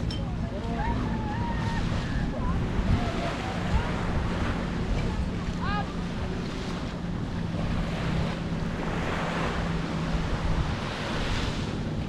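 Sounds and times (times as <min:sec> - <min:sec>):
surf washing on sand: 0:00.0 - 0:12.0
wind buffeting microphone: 0:00.0 - 0:12.0.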